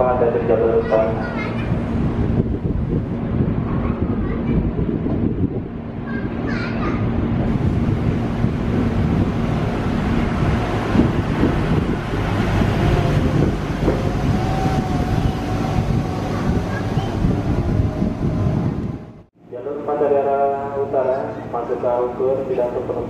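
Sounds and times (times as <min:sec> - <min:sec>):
wind buffeting microphone: 0:00.0 - 0:19.4
rail inspection car rumbling past: 0:00.0 - 0:23.0.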